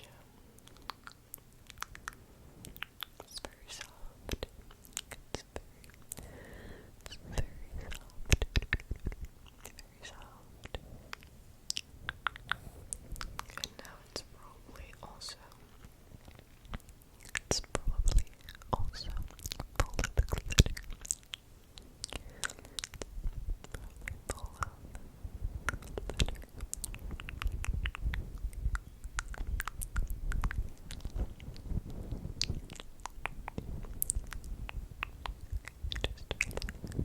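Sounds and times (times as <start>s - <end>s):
wet mouth clicks and smacks: 0.6s - 6.3s, 7.0s - 14.3s, 15.8s - 24.8s, 25.7s - 37.0s.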